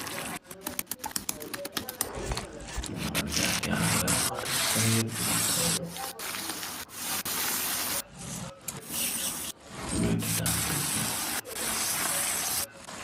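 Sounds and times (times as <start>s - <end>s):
spatula scraping in a pan: 2.1s - 13.0s.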